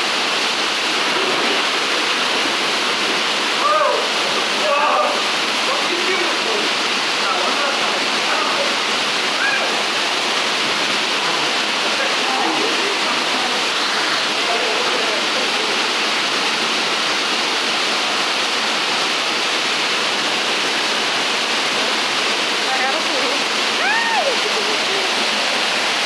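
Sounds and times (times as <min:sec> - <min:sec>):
waterfall rushing into pool: 0:00.0 - 0:26.0.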